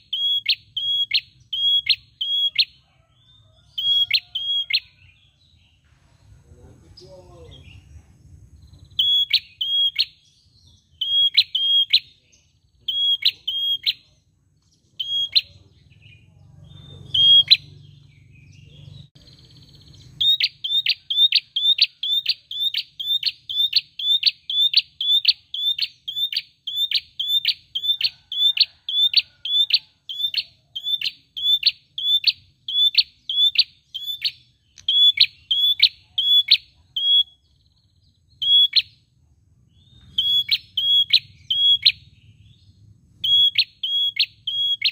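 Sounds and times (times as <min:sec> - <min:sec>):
bird chirping high and clipped: 0:00.0 - 0:05.8, 0:08.6 - 0:39.1, 0:39.7 - 0:44.9.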